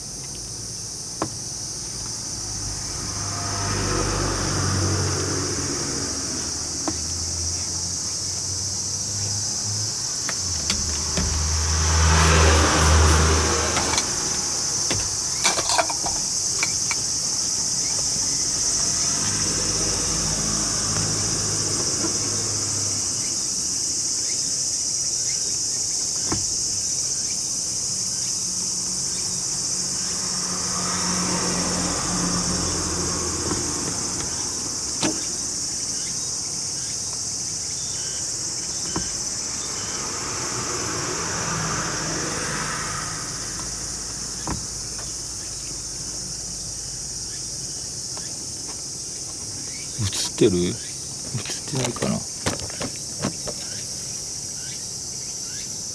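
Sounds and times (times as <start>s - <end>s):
insects chorus: 0.0s - 55.9s.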